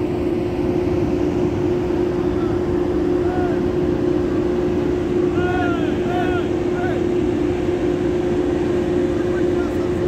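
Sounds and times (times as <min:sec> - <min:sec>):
ferry machinery humming: 0:00.0 - 0:10.0.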